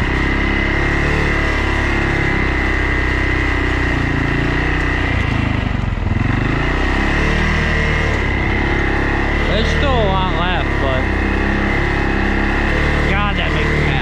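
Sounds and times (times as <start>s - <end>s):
steady high whine: 0.0s - 14.0s
vehicle engine running: 0.0s - 14.0s.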